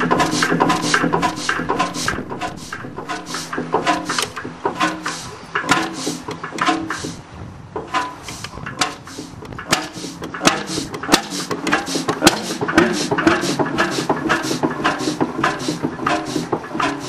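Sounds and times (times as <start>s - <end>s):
engine sharp knocks: 0.0s - 17.0s
low mechanical rumble: 0.0s - 17.0s.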